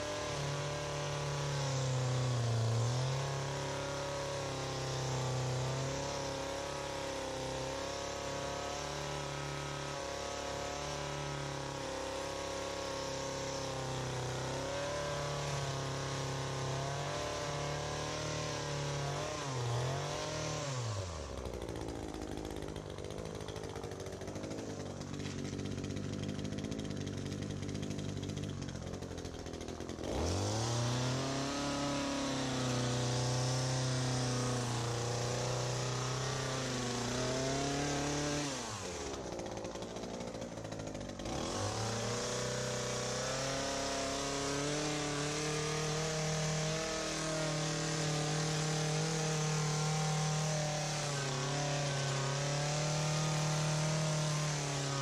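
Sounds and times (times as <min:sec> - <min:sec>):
hedge trimmer engine revving: 0:00.0 - 0:55.0.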